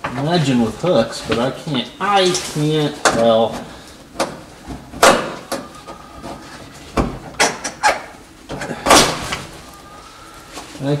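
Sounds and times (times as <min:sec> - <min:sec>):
scraping rustles: 0:00.0 - 0:11.0.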